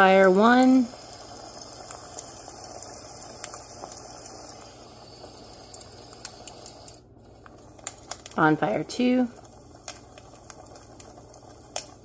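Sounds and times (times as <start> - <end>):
campfire crackling and hissing: 0.0 - 12.0.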